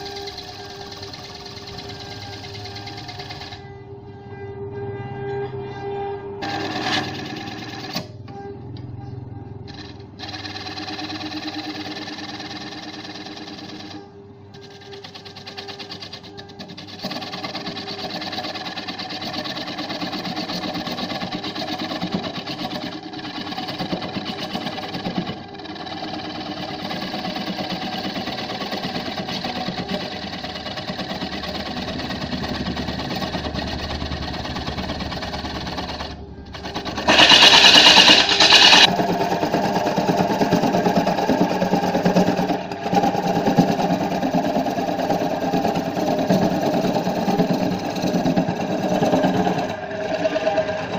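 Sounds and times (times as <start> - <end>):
wood lathe tool cutting wood: 0.0 - 3.6, 6.4 - 8.1, 9.7 - 14.0, 14.6 - 50.9.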